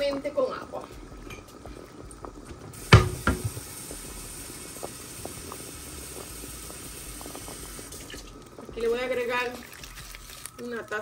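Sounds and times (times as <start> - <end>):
steady low hiss: 0.0 - 11.0.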